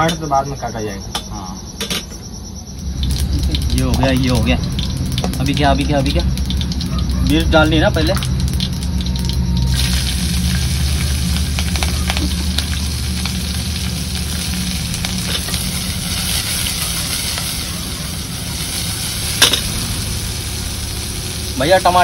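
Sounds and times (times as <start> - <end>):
chillies sizzling in hot oil: 2.8 - 22.0.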